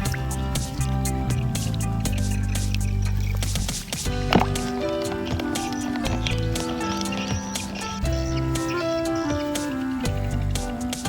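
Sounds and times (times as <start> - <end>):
background music with bass line: 0.0 - 11.0
water dripping: 0.0 - 11.0.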